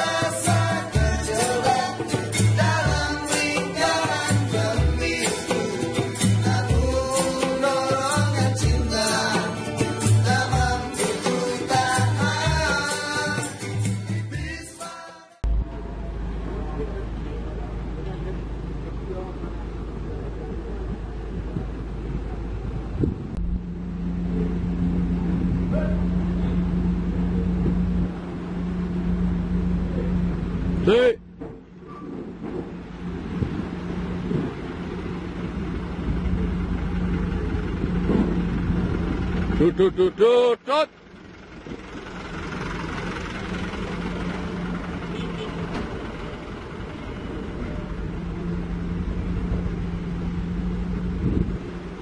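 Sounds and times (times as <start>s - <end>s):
diesel engine running: 0.0s - 14.7s, 15.4s - 52.0s.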